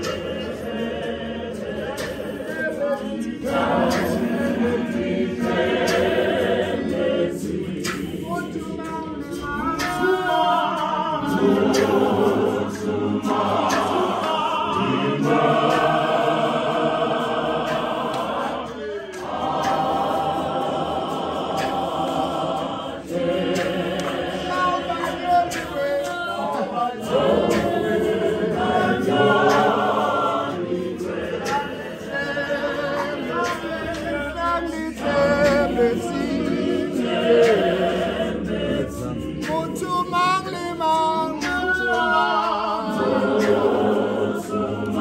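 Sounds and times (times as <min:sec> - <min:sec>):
congregation singing a hymn: 0:00.0 - 0:45.0.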